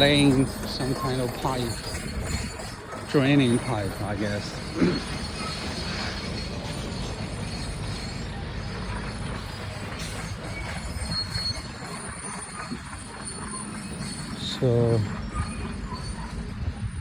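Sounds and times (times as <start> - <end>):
construction machinery rumble: 0.0 - 17.0
faint metallic squeaks: 0.0 - 17.0.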